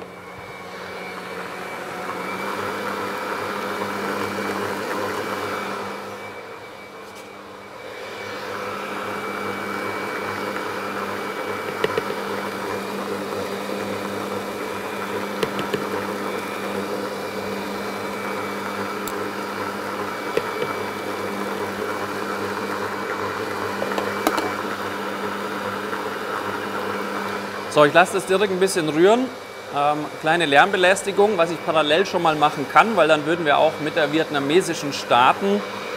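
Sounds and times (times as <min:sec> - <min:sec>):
electric mixer whirring: 0:00.0 - 0:35.9.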